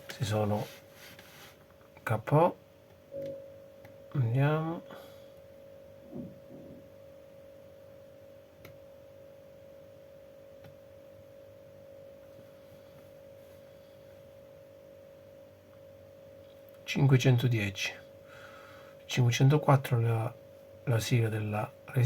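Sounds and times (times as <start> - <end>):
faint electronic whine: 0.0 - 22.0.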